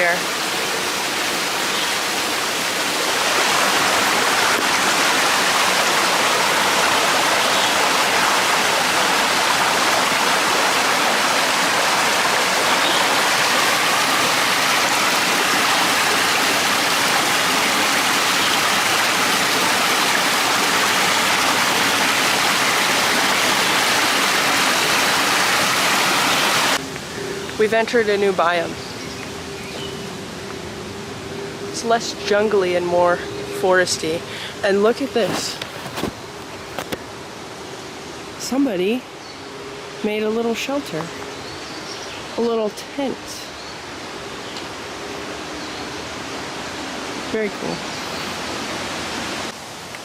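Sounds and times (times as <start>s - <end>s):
stream water rushing: 0.0s - 50.0s.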